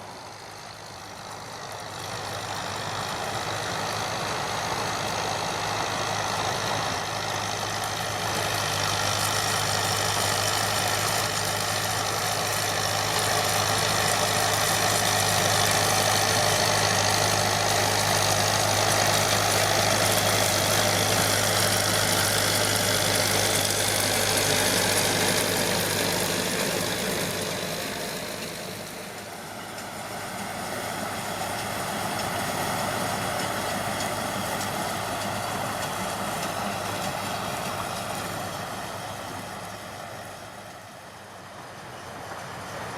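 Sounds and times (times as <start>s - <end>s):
tractor engine hum: 0.0s - 42.9s
baler rattle and hiss: 0.1s - 42.9s.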